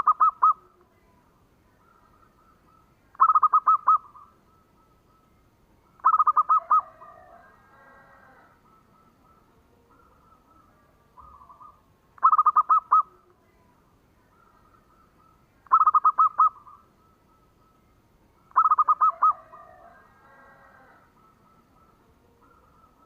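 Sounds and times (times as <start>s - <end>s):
dove cooing: 0.0s - 0.8s, 1.8s - 5.2s, 5.9s - 13.6s, 14.2s - 17.8s, 18.4s - 23.0s
faint bird calls: 0.0s - 23.0s.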